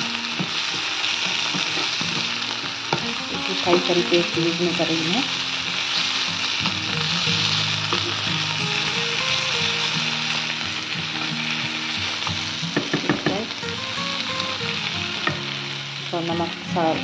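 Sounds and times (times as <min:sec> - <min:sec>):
masala sizzling in a frying pan: 0:00.0 - 0:17.0.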